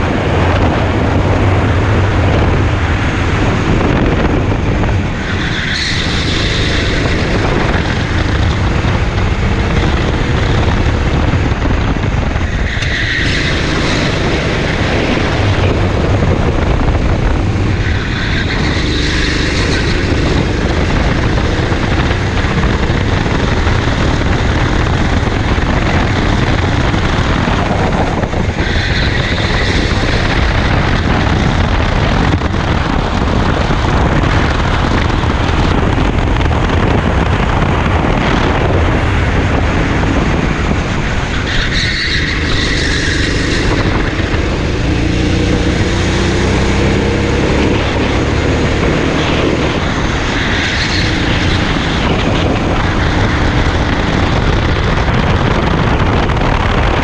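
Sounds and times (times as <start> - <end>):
kart engine buzzing: 0.0 - 57.0.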